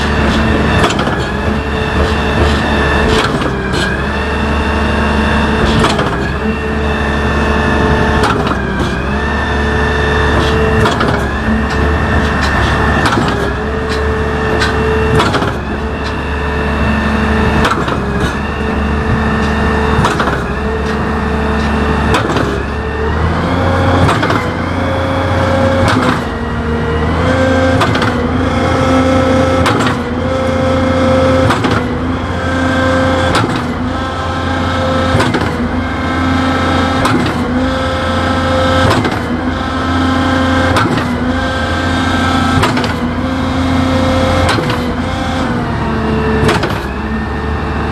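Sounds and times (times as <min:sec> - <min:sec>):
pumping cylinders clunking: 0:00.0 - 0:47.4
concrete pump engine drone: 0:00.0 - 0:47.9.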